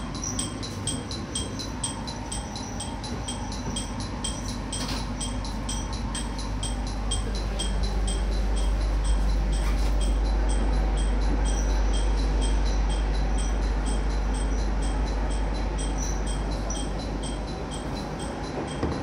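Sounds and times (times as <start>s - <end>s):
high metallic chime: 0.0s - 19.0s
train running rumble: 0.0s - 19.0s.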